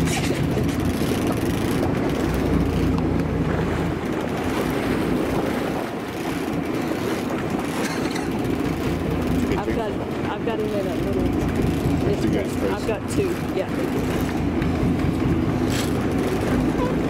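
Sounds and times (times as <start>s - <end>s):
boat engine humming: 0.0s - 17.0s
wind and water rushing: 0.0s - 17.0s.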